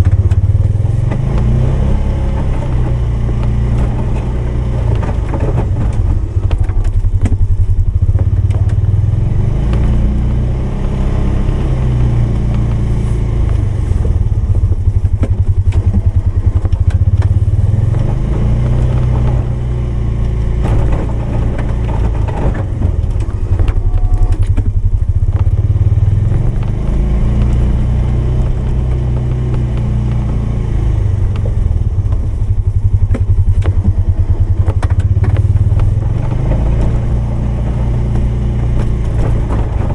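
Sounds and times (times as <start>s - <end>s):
clatter: 0.0s - 39.9s
engine running under load: 0.0s - 39.9s.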